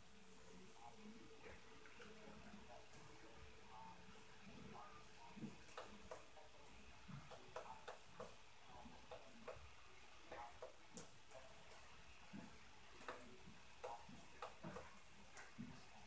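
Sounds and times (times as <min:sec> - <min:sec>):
muffled footsteps from upstairs: 0:00.8 - 0:09.7, 0:10.3 - 0:16.0.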